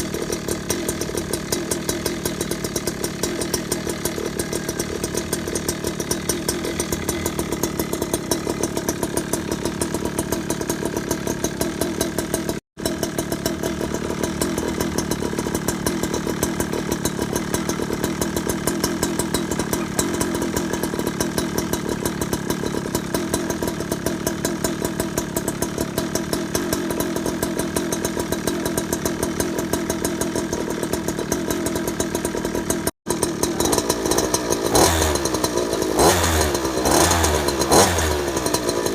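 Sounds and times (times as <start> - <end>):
two-stroke scooter engine running: 0.0 - 38.9.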